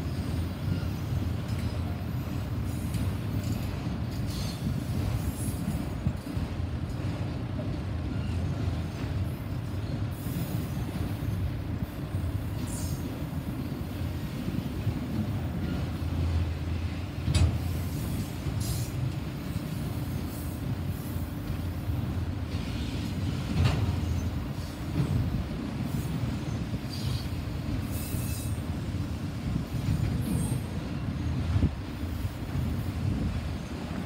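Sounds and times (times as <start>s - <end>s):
steel wheels rumbling on rail: 0.0s - 34.0s.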